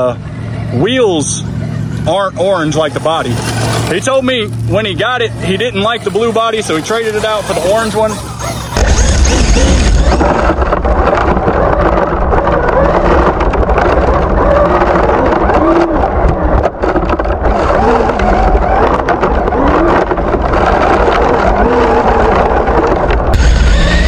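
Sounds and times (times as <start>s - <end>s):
steady low rumble: 0.0s - 17.6s, 18.2s - 24.0s
toy truck electric motor whining: 0.0s - 24.0s.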